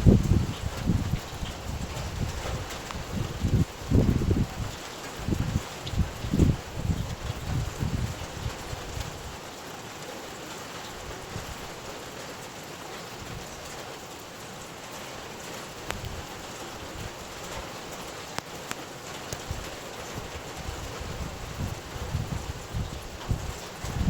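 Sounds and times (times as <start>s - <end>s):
low wind gusts: 0.0s - 24.0s
steady rain hiss: 0.0s - 24.0s.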